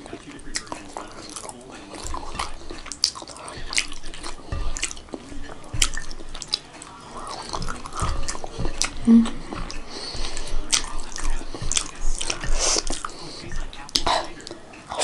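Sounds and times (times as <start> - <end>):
fingers mixing rice in bowl: 0.0 - 15.0
wet chewing and mouth smacks: 0.0 - 15.0.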